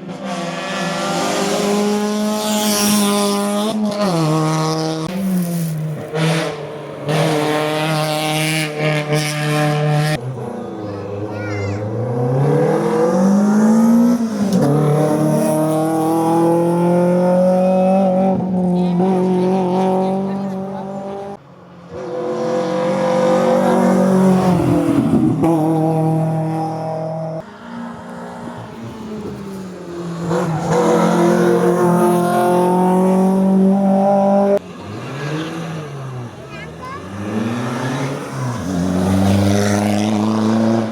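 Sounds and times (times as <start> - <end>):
racing car engine accelerating: 0.1 - 40.9.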